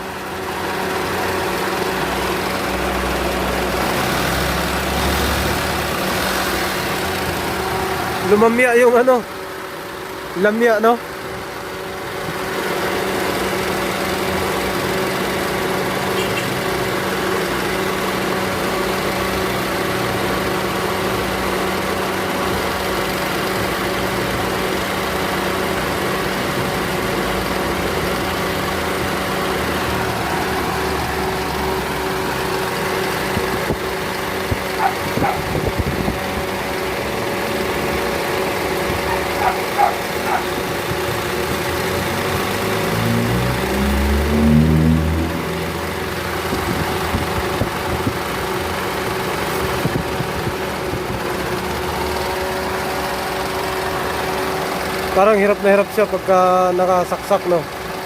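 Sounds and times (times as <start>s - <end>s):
car engine idling with misfire: 0.0s - 58.0s.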